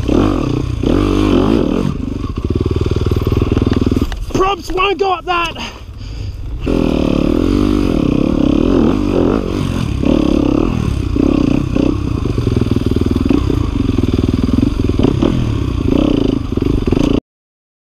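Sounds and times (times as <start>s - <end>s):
dirt bike engine revving: 0.0s - 4.4s, 5.5s - 17.2s.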